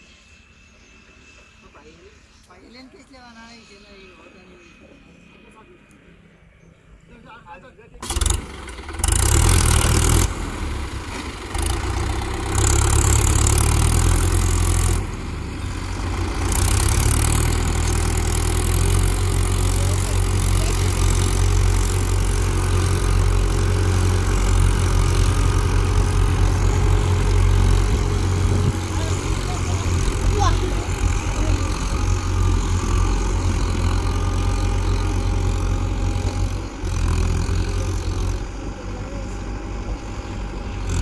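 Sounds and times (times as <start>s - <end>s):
tractor diesel engine under load: 8.0s - 41.0s.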